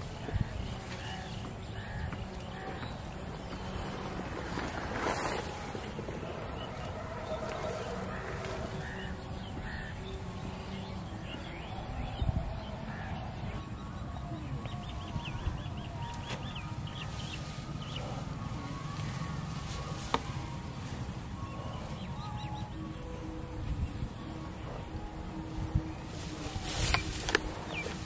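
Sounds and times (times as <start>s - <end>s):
birds calling: 0.0s - 28.0s.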